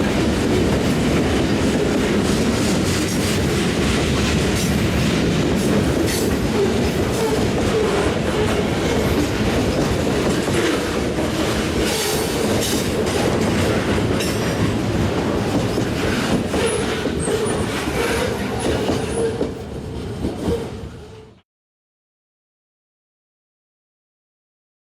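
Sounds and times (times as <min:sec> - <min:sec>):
train wheel and rail noise: 0:00.0 - 0:21.4.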